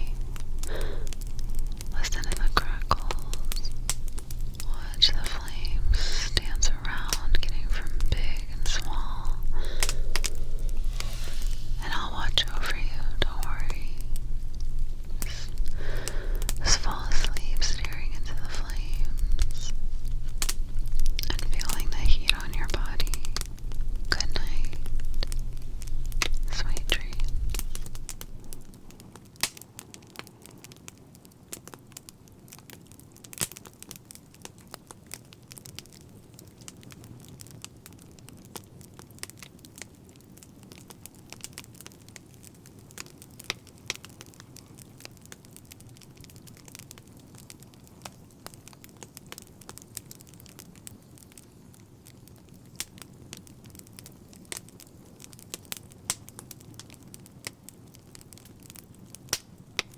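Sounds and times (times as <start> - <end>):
soft steady hiss: 0.0 - 59.9
wood fire crackling and popping: 0.0 - 59.9.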